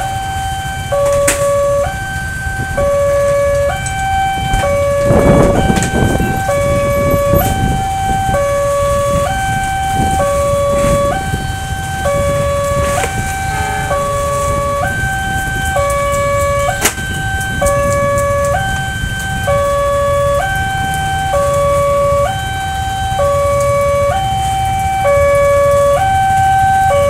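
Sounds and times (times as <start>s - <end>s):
two-tone crossing alarm: 0.0s - 27.0s.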